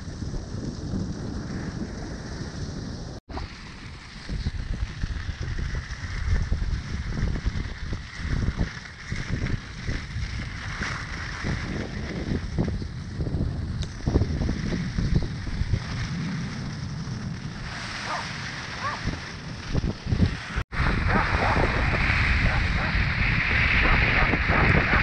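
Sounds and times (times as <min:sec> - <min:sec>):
skis running over snow: 0:00.0 - 0:25.0
wind buffeting microphone: 0:00.0 - 0:25.0.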